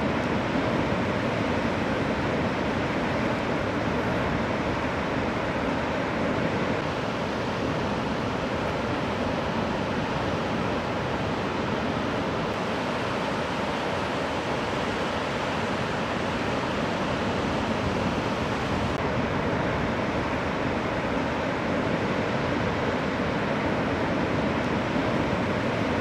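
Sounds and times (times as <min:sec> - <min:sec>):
ocean surf roaring: 0:00.0 - 0:26.0.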